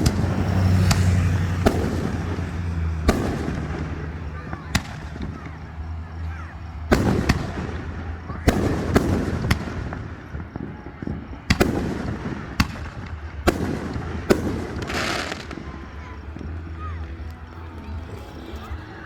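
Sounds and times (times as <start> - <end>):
fireworks booming: 0.0 - 17.9
fireworks crackling: 0.0 - 19.0.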